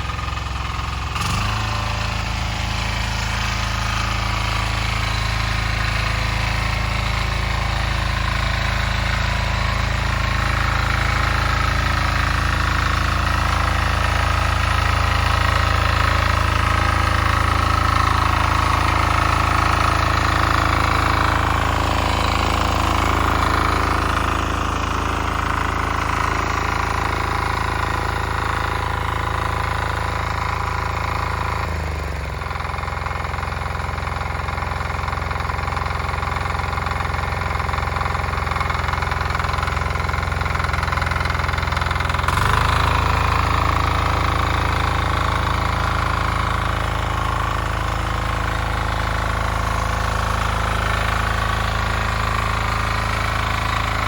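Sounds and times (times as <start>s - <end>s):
diesel engine rattling: 0.0s - 54.0s.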